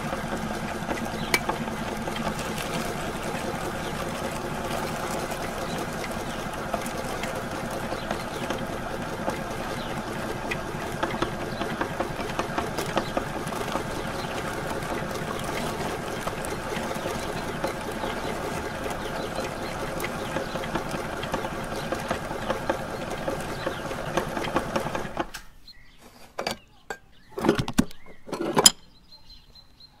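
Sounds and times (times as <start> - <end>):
electric meat grinder running: 0.0 - 25.3.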